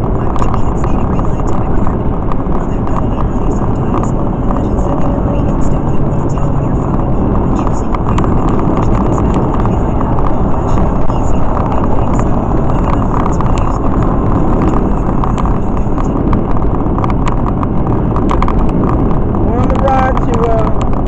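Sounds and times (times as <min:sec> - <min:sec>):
road and wind noise in car: 0:00.0 - 0:21.0.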